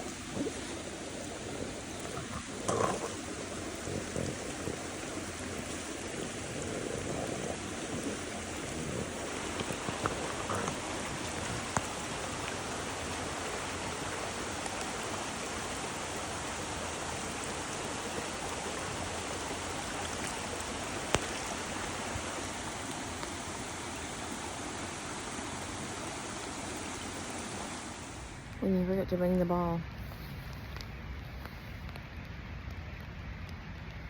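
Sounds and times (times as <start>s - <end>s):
water rushing: 0.0s - 28.6s.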